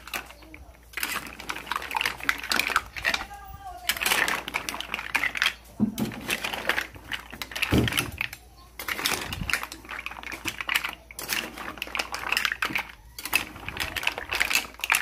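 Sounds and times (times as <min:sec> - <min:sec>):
rapid clicking and clattering: 0:00.0 - 0:15.0.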